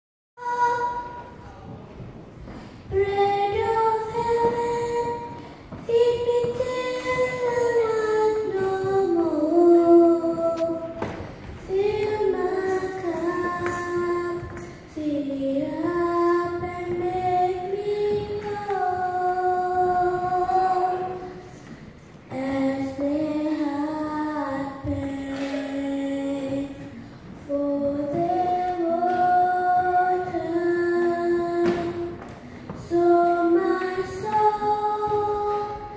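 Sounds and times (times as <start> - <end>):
girl singing worship song: 0.4 - 35.9.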